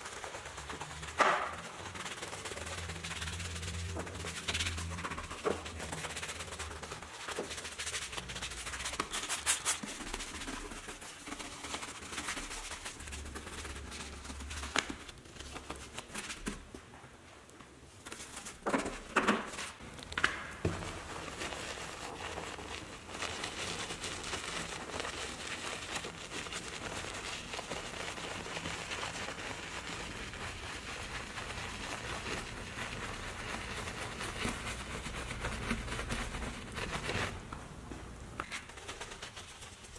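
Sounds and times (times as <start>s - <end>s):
brush scrubbing through foam: 0.0s - 16.6s, 20.8s - 37.4s, 38.4s - 39.9s.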